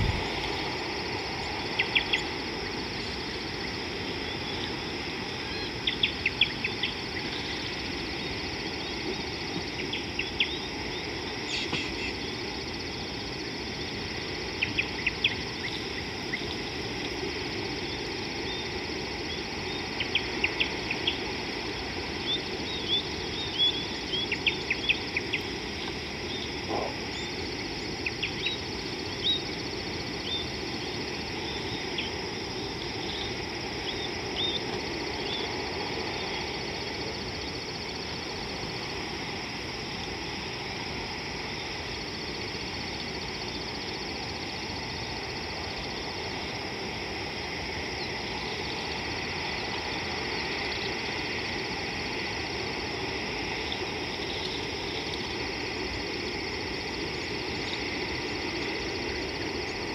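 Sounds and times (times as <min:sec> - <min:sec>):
faint high insect trill: 0:00.0 - 0:59.9
outdoor bush ambience: 0:00.0 - 0:59.9.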